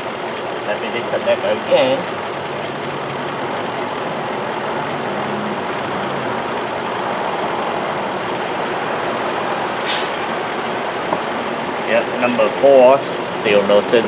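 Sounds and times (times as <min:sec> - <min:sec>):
car engine misfiring at idle: 0:00.0 - 0:14.0.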